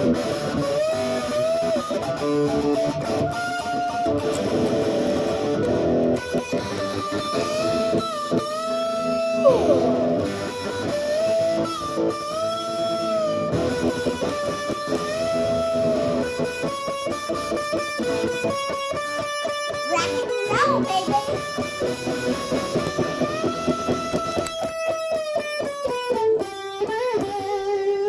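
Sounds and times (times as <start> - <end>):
electric guitar solo with bent notes: 0.0 - 28.0
rock and roll song: 0.0 - 28.0.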